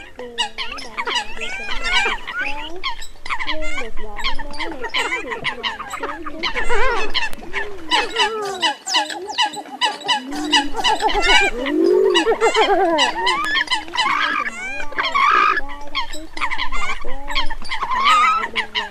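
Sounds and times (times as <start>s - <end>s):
coots calling: 0.0s - 18.9s.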